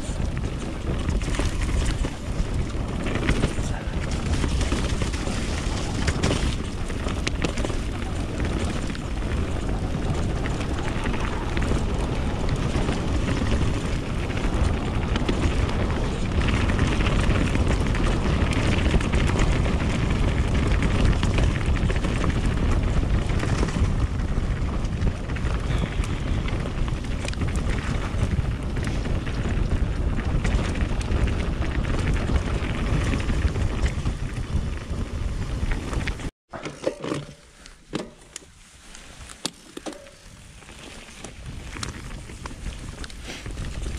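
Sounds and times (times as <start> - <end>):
wind buffeting microphone: 0.0 - 36.3, 40.0 - 43.9
bike clicks and rattles: 0.0 - 43.9
tyre noise on dirt: 0.0 - 43.9.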